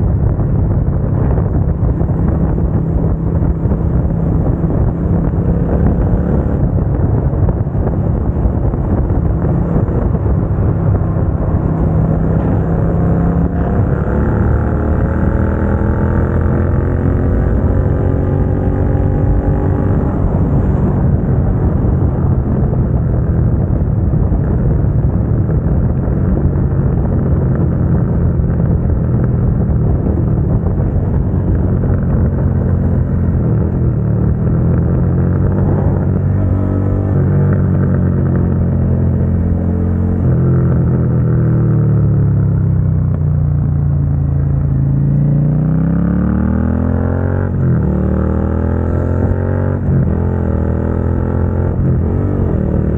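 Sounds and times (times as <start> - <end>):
motorcycle engine while riding: 0.0 - 52.9
wind rush: 0.0 - 52.9.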